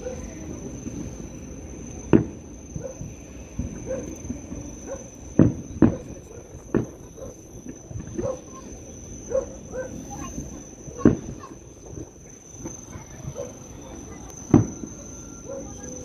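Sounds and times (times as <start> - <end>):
distant fireworks booming: 0.0 - 16.0.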